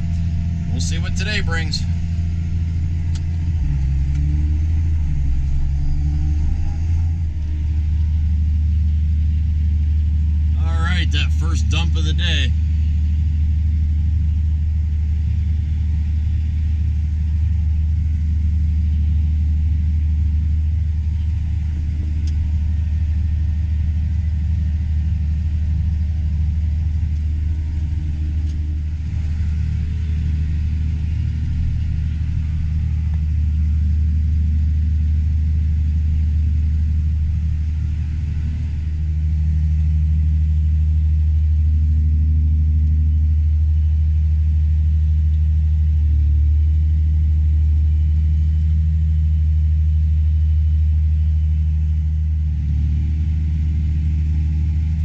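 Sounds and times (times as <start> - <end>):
steady hum: 0.0 - 47.0
combine harvester engine drone: 0.0 - 55.0.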